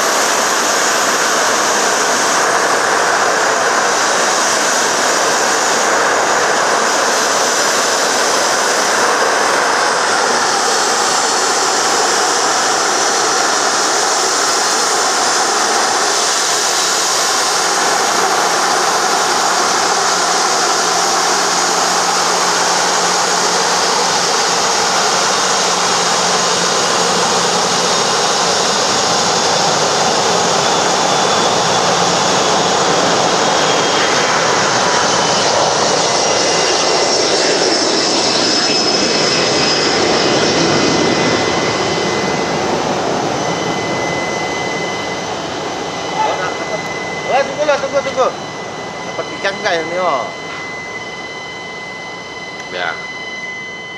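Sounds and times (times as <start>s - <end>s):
jet engine whining: 0.0s - 53.9s.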